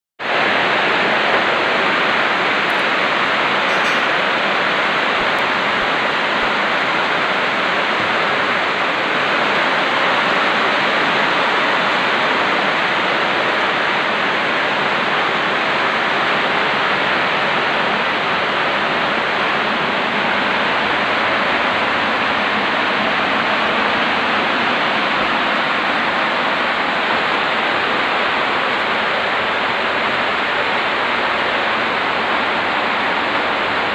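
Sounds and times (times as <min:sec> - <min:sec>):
floodwater rushing across concrete floor: 0:00.2 - 0:33.9.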